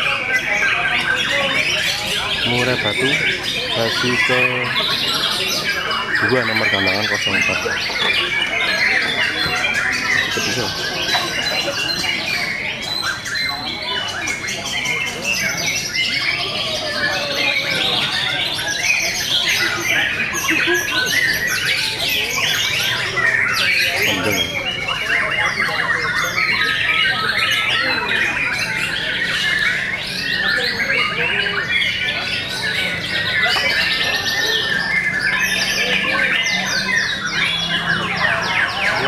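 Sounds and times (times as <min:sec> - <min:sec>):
other songbirds singing: 0:00.0 - 0:39.0.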